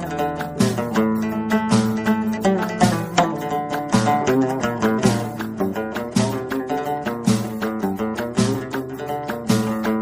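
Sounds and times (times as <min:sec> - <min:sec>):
plucked string music: 0:00.0 - 0:10.0.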